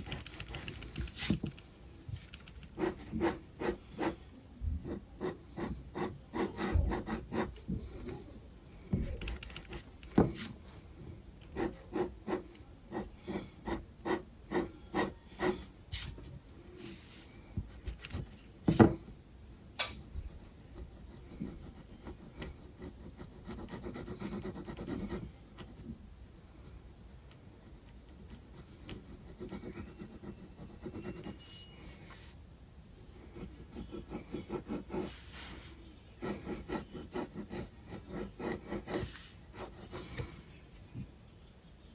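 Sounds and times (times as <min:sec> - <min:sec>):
pencil scratching on paper: 0:00.0 - 0:08.4, 0:09.0 - 0:19.0, 0:20.0 - 0:32.3, 0:33.0 - 0:40.2.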